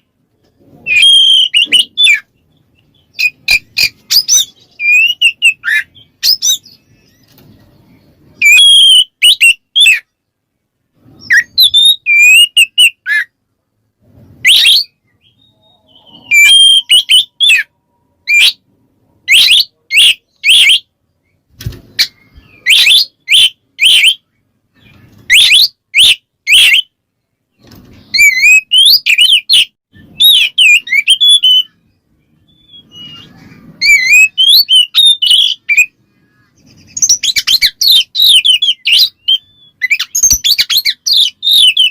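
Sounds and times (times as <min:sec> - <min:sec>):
bird singing whistles and chirps: 0:00.8 - 0:10.2, 0:11.0 - 0:13.3, 0:14.3 - 0:18.6, 0:19.2 - 0:26.9, 0:28.0 - 0:41.9.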